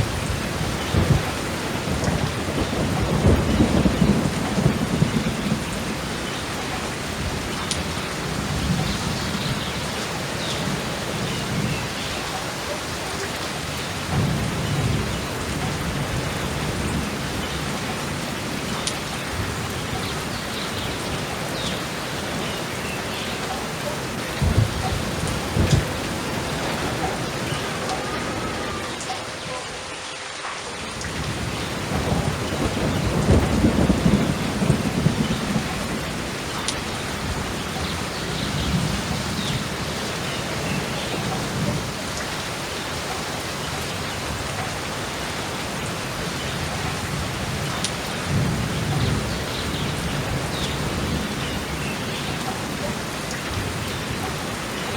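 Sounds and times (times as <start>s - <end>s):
thunder cracks and rumbles: 0.0s - 12.3s, 13.6s - 29.9s, 30.9s - 54.9s
heavy rain: 0.0s - 54.9s.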